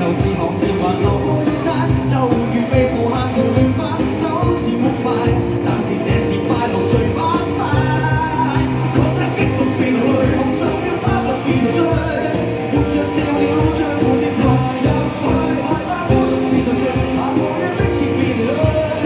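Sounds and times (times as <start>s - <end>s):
bass guitar: 0.0s - 19.0s
electric guitar: 0.0s - 19.0s
person singing: 0.0s - 19.0s
steady drum beat: 0.0s - 19.0s.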